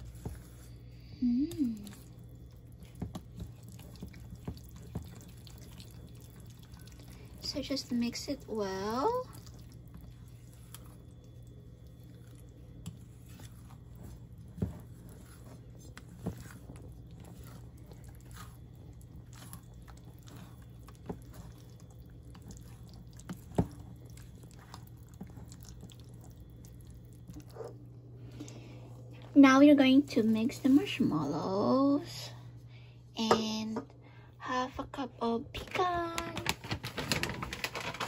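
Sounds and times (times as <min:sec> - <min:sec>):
spatula squishing and scraping: 0:00.0 - 0:32.2.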